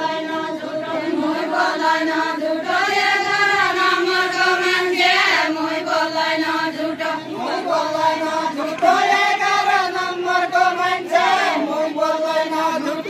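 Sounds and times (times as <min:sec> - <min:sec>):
voices singing folk song together: 0:00.0 - 0:13.0.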